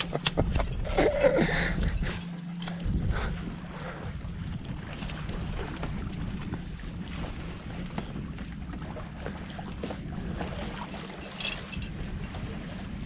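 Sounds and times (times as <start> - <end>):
water washing along hull: 0.0 - 13.0
wind buffeting microphone: 0.0 - 13.0.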